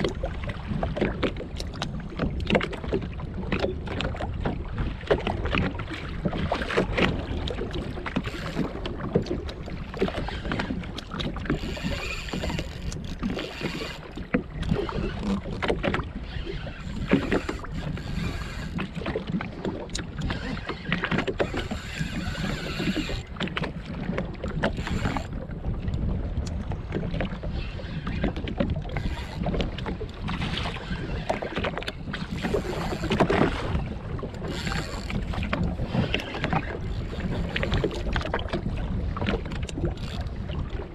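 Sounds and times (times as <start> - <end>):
waves slapping against hull: 0.0 - 40.9
wind buffeting microphone: 0.0 - 40.9.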